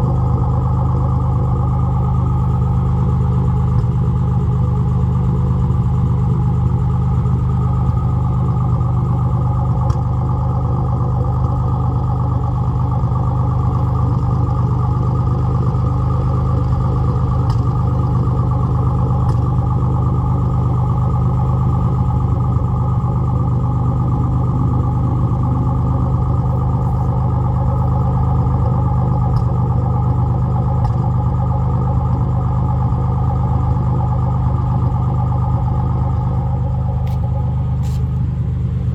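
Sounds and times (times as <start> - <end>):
car engine running with misfire: 0.0 - 38.9.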